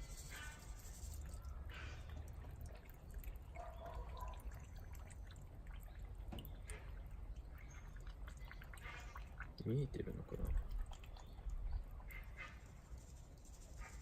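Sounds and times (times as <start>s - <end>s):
rain dripping: 0.0s - 12.2s.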